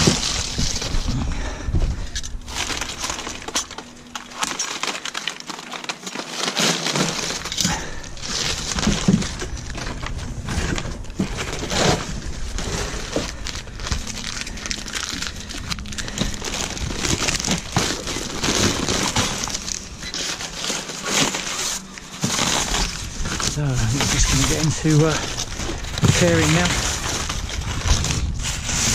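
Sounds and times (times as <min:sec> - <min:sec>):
paper crinkling and tearing: 0:00.0 - 0:28.9.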